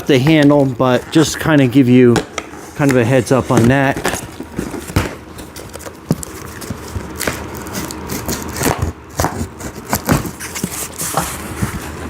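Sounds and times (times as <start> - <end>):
cardboard scraping and crackling: 0.0 - 12.0.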